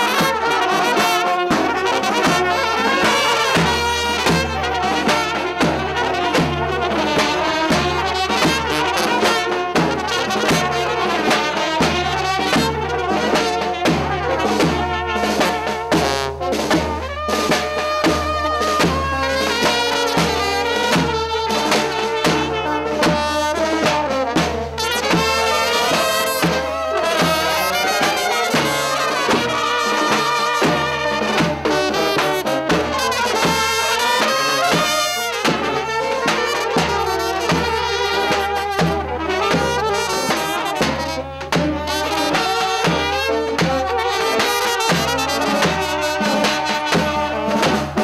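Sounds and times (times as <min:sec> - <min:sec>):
brass band playing dance tune: 0:00.0 - 0:48.0.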